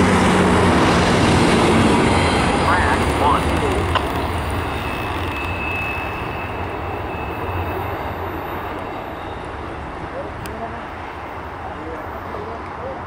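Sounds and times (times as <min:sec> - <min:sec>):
diesel locomotive rumble: 0:00.0 - 0:12.9.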